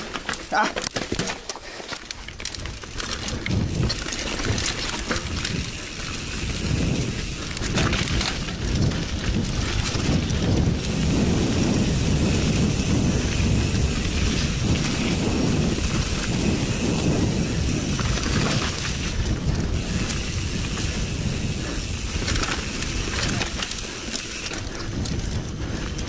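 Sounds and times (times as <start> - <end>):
bike rattling and knocking: 0.0 - 26.0
bike tyres rumbling over dirt: 0.0 - 26.0
wind rushing on microphone: 2.6 - 26.0.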